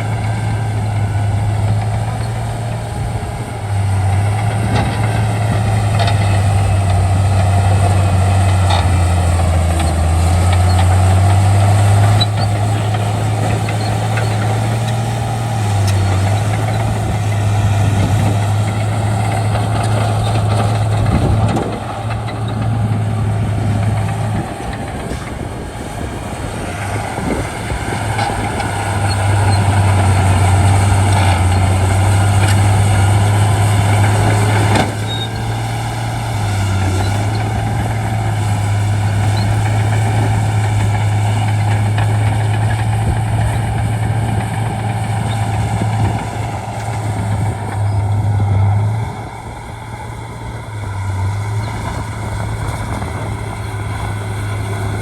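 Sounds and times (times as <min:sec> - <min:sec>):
bulldozer diesel engine running: 0:00.0 - 0:55.0
clanking tracks: 0:00.0 - 0:55.0.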